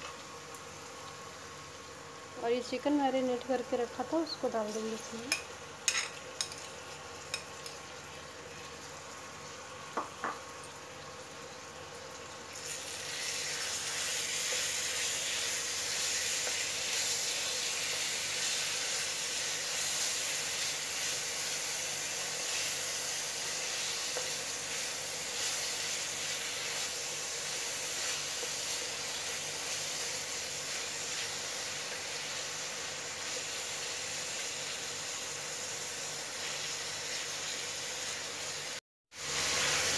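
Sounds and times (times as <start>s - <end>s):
chicken sizzling in a pan: 0.0s - 39.9s.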